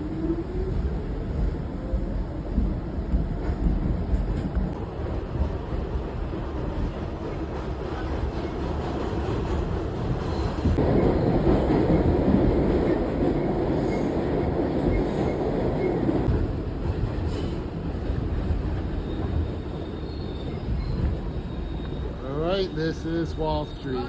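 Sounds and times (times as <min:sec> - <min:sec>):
subway car rumbling in tunnel: 0:00.0 - 0:24.0.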